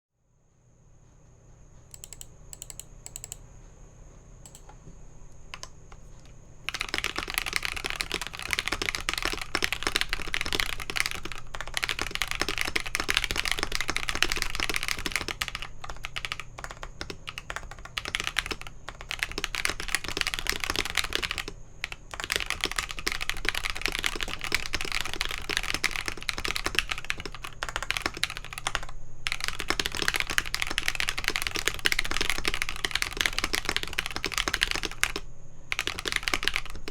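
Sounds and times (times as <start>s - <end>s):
typing on mechanical keyboard: 2.0s - 3.4s, 4.5s - 4.8s, 5.5s - 36.9s.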